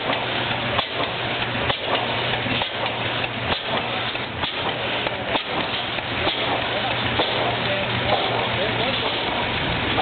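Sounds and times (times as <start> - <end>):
stationary engine running slowly: 0.0 - 10.0.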